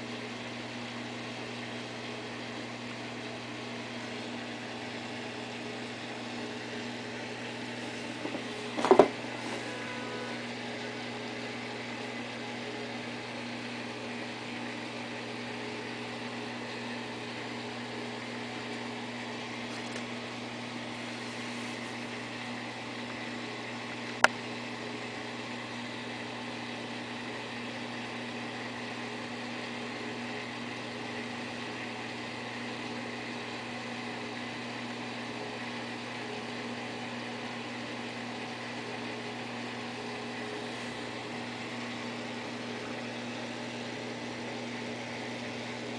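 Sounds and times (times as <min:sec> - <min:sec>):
aquarium pumps humming: 0:00.0 - 0:45.9.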